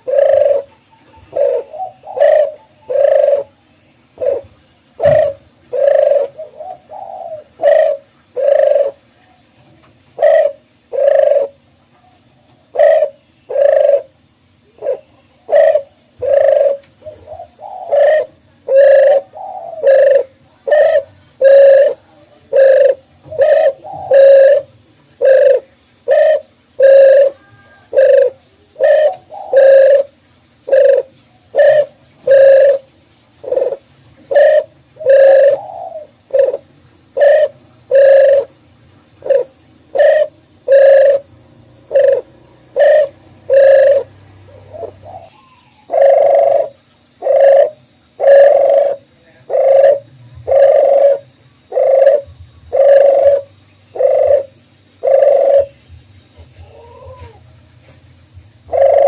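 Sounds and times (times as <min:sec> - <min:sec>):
dove cooing: 0:00.0 - 0:09.3, 0:09.9 - 0:57.6, 0:58.4 - 0:59.0.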